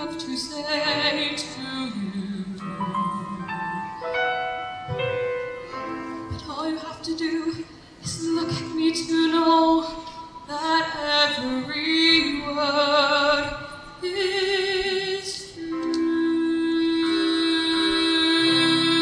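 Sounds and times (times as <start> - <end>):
woman singing a ballad: 0.0 - 4.0, 6.2 - 19.0.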